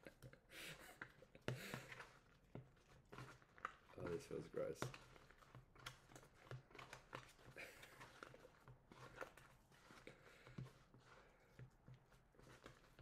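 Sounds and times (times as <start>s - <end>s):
slime squishing and crackling: 1.9s - 13.0s.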